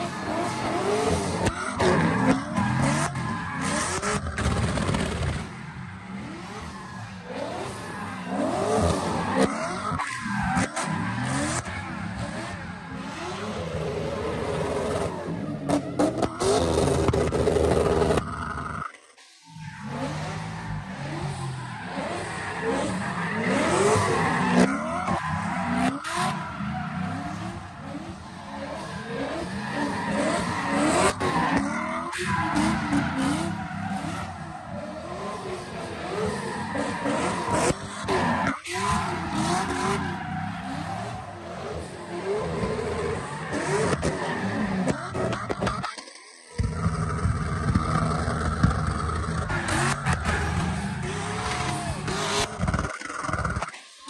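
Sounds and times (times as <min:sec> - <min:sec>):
car engines revving hard: 0:00.0 - 0:18.9, 0:19.5 - 0:53.8.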